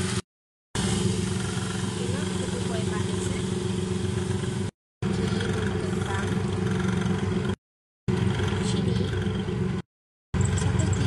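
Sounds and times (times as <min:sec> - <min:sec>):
low motor hum: 0:00.8 - 0:09.8, 0:10.4 - 0:11.0.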